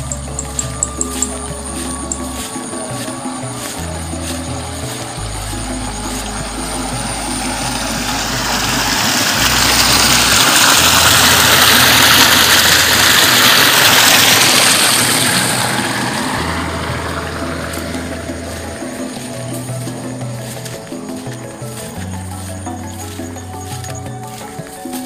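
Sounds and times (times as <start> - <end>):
water rushing through channel: 0.0 - 25.0.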